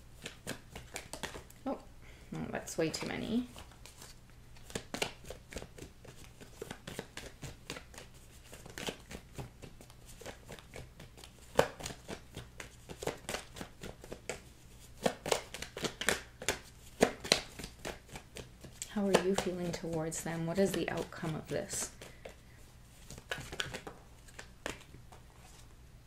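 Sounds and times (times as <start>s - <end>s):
cards being shuffled: 0.2s - 1.6s, 2.9s - 25.7s.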